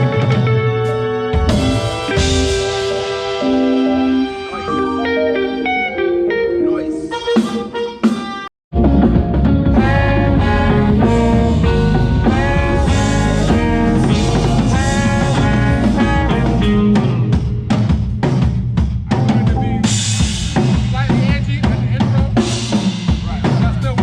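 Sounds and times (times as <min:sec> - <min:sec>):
band playing: 0:00.0 - 0:24.0.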